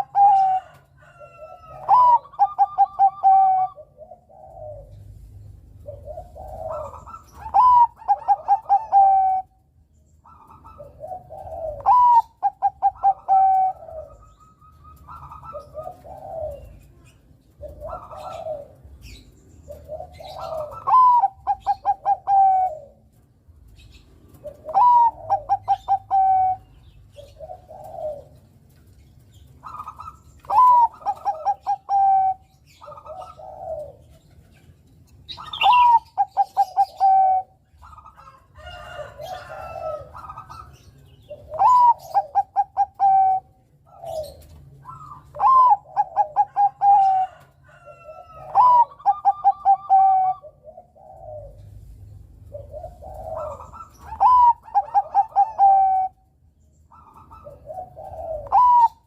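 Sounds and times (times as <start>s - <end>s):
dove cooing song: 0.0s - 59.0s.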